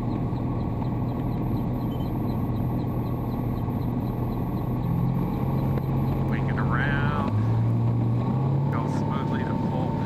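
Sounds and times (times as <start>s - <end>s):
airplane engine and propeller droning: 0.0s - 10.0s.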